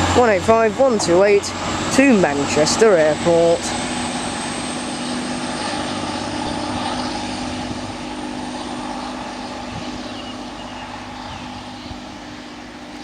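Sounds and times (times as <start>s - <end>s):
train diesel engines droning: 0.0s - 13.0s.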